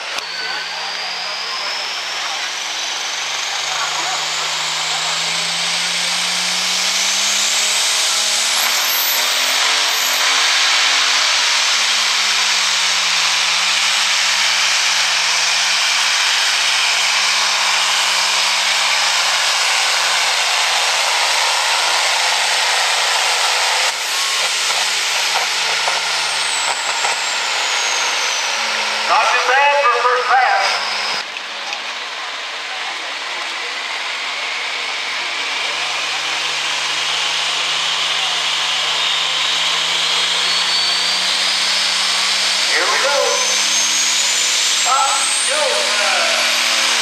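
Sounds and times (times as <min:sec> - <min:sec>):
diesel engine running under load: 0:00.0 - 0:47.0
high turbo whine: 0:00.0 - 0:47.0.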